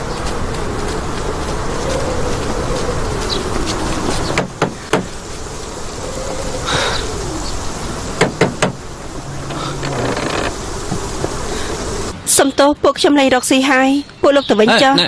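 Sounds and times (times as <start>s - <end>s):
low wavering hum: 0.0s - 12.2s.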